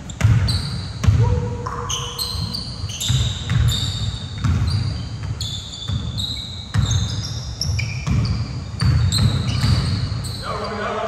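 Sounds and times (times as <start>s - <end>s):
basketball bouncing: 0.0s - 10.3s
sneakers squeaking on court: 0.0s - 11.0s.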